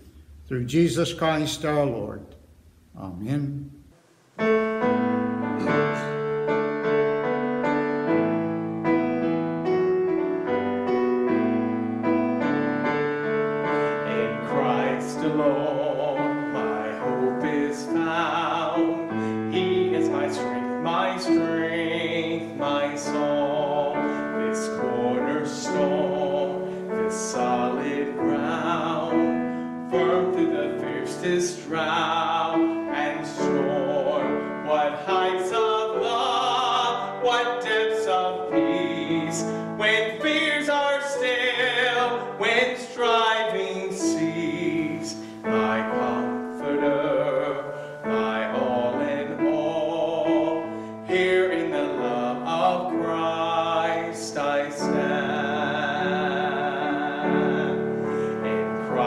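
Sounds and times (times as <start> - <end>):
slow piano playing: 4.4 - 59.0
man singing: 5.4 - 7.2, 12.6 - 59.0.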